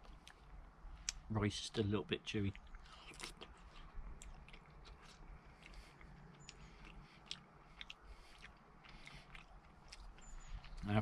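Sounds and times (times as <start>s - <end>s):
person chewing rice: 0.0s - 1.2s, 2.5s - 11.0s.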